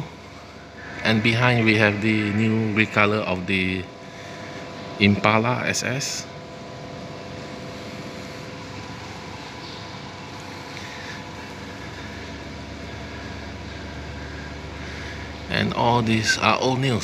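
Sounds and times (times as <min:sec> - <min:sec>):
background hum: 0:00.0 - 0:17.0
faint steady tones: 0:00.0 - 0:17.0.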